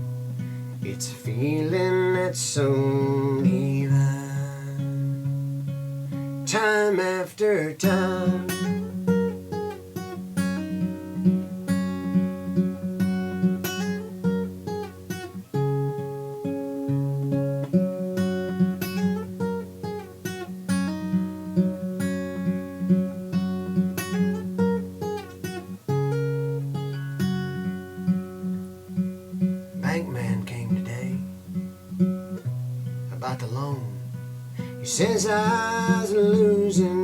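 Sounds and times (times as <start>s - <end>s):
acoustic guitar riff: 0.0s - 37.0s.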